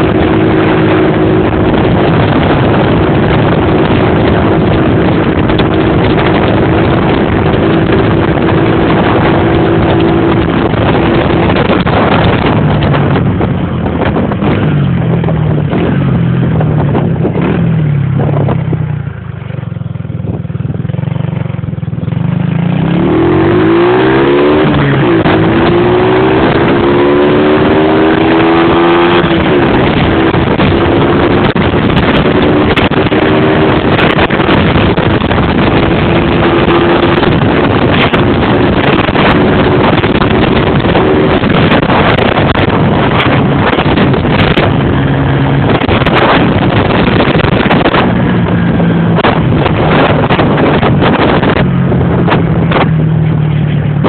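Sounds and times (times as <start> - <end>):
moped engine running: 0.0 - 54.0
wind rushing over microphone: 0.0 - 54.0.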